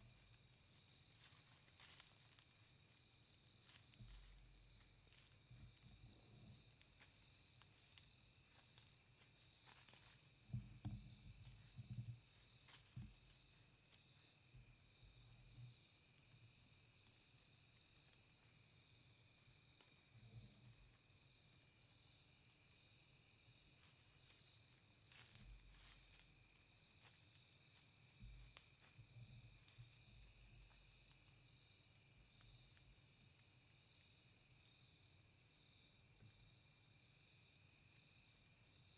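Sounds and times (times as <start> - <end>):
high-pitched insect chorus trilling: 0.0 - 38.9.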